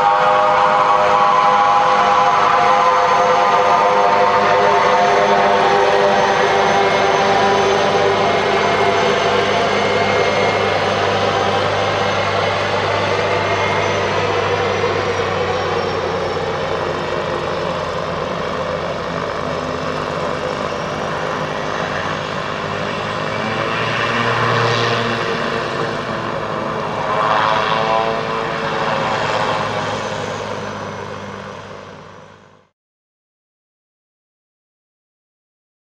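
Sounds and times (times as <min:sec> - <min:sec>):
high turbine whine: 0:00.0 - 0:32.7
propeller hum: 0:00.0 - 0:32.7.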